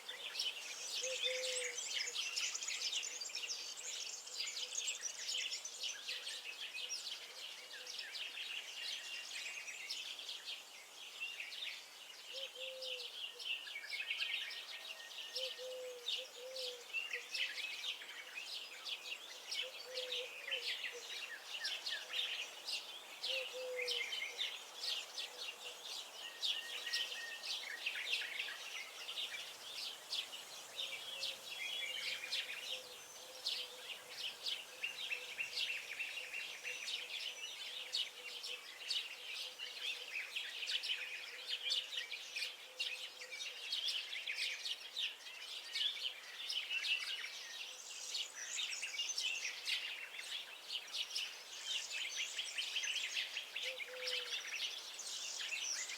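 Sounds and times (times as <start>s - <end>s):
songbirds singing and chirping: 0.0s - 55.9s.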